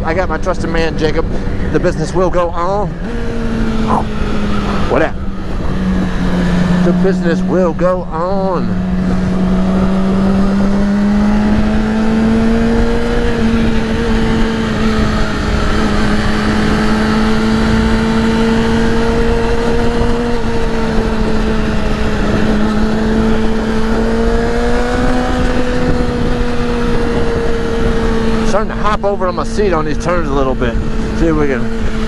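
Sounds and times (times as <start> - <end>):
motorcycle engine cruising: 0.0 - 32.0
wind rushing across microphone: 0.0 - 32.0.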